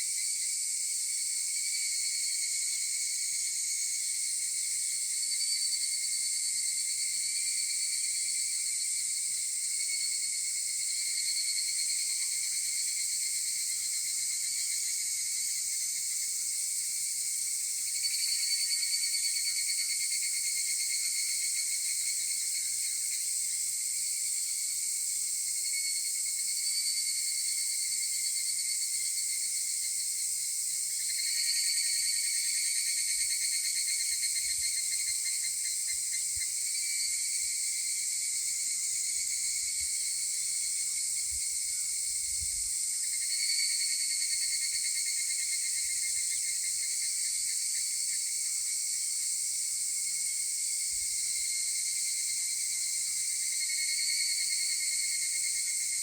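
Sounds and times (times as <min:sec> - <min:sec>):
cicadas trilling: 0:00.0 - 0:56.0.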